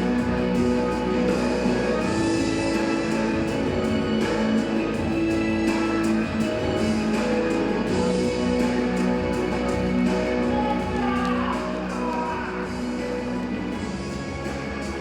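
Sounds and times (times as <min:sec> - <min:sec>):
music with guitar: 0:00.0 - 0:15.0.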